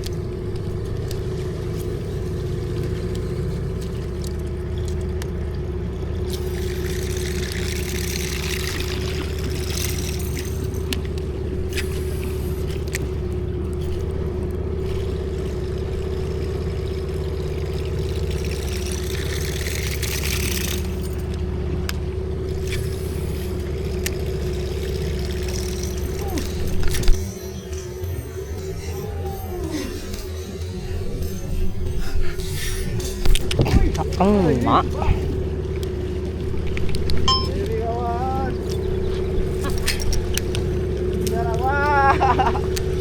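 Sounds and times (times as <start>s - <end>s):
small engine running: 0.0s - 43.0s.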